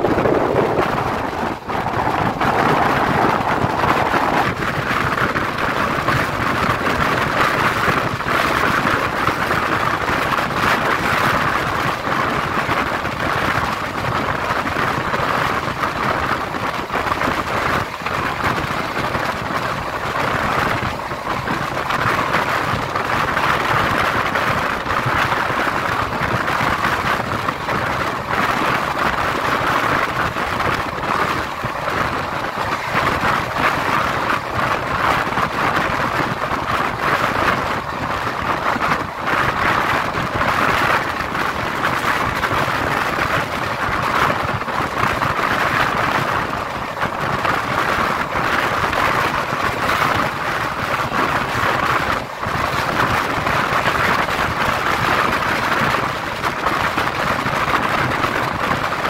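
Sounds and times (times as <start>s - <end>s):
train wheels rushing on rails: 0.0s - 59.0s.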